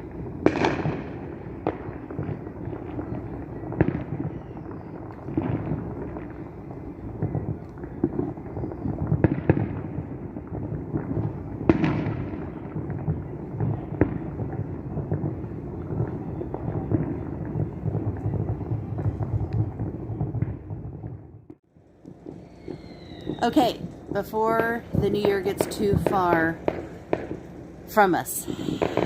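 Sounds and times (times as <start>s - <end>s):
sharp firework bangs: 0.0s - 21.4s, 22.1s - 29.0s
distant fireworks rumble: 0.0s - 29.0s.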